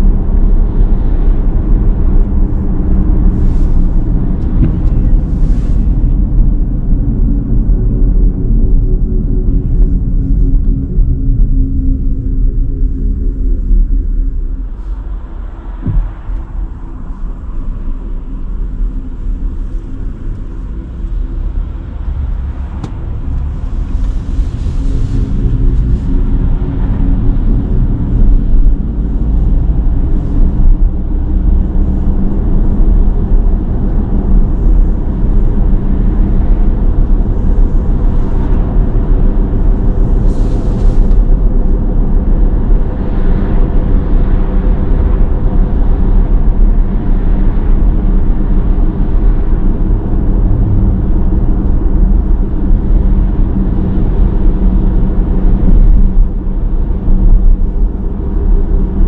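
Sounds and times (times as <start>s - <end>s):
road and tyre noise: 0.0s - 59.0s.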